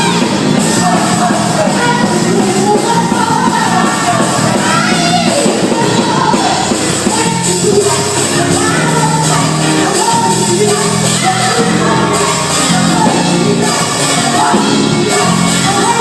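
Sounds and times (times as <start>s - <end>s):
band accompaniment: 0.0s - 16.0s
person singing gospel: 0.0s - 16.0s.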